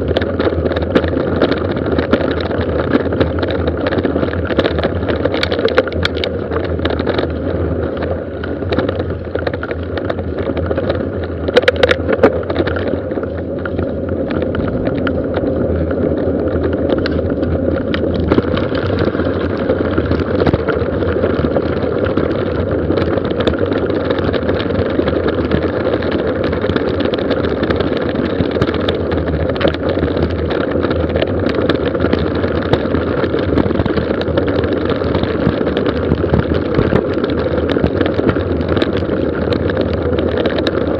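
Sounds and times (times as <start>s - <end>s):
bike rattles and jolts: 0.0s - 40.9s
tyres on gravel: 0.0s - 40.9s
wind rushing on microphone: 0.0s - 40.9s.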